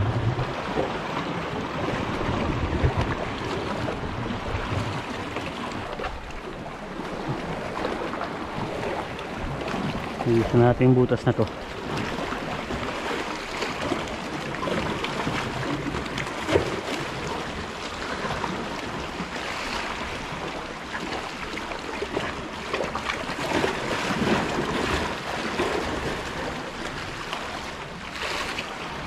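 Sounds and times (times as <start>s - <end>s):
seawater washing and splashing: 0.0s - 29.0s.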